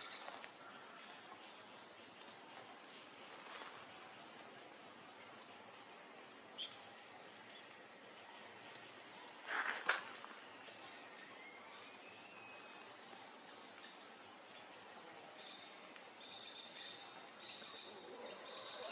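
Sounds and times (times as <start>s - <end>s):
insects chirring: 0.0s - 18.9s.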